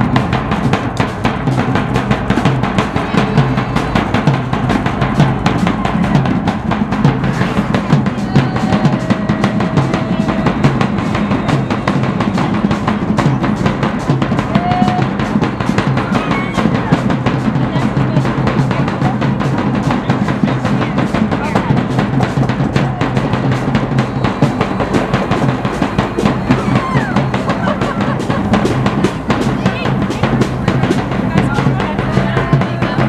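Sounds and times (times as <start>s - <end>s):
fast drum roll: 0.0s - 33.0s.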